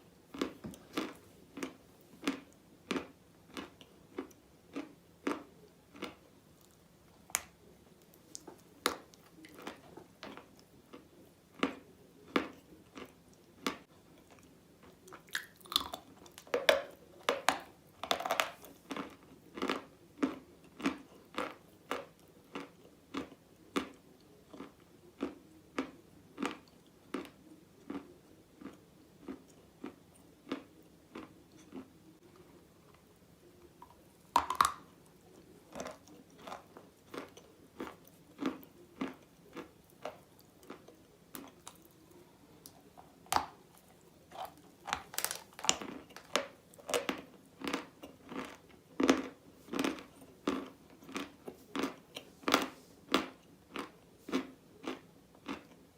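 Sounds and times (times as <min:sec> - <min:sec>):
crunching and chewing chalk: 0:00.2 - 0:55.9.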